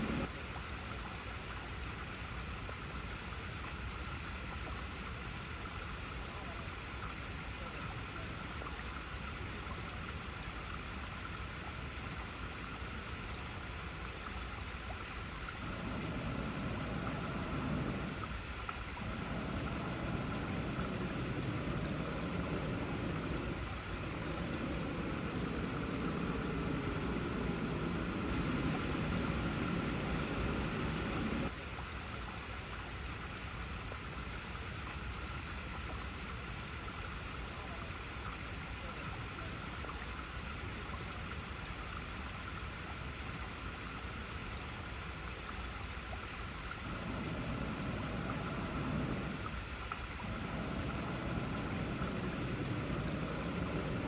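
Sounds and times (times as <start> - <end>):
water rushing over rocks: 0.0 - 41.8, 44.1 - 54.0
deeper water rush: 0.0 - 54.0.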